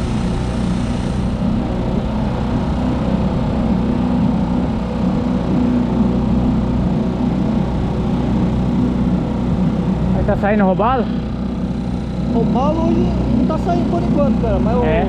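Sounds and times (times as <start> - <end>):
outboard motor droning: 0.0 - 15.0.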